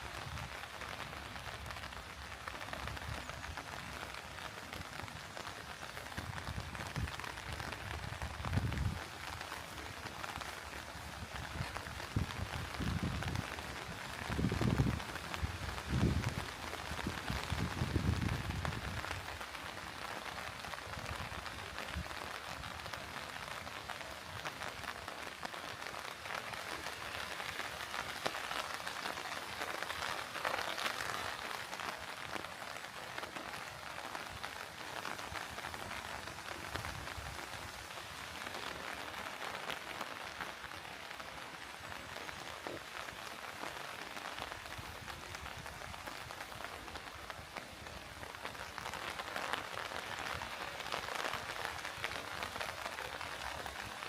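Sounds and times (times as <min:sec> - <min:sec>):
rain hiss: 0:00.0 - 0:54.0
raindrops ticking: 0:00.0 - 0:54.0.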